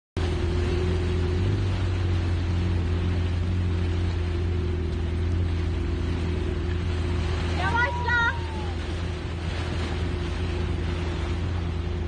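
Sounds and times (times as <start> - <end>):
boat engine droning: 0.2 - 12.0.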